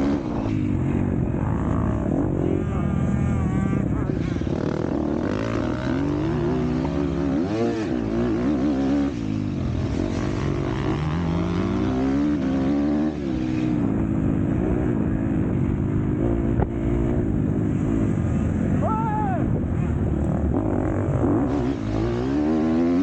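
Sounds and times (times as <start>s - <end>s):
motocross bike engine revving: 0.0s - 18.8s, 19.7s - 23.0s.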